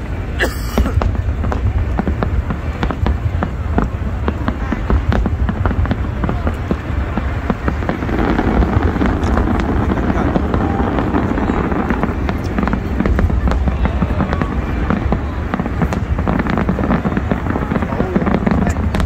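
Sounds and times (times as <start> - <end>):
fireworks booming: 0.0 - 19.0
fireworks crackling: 0.0 - 19.0.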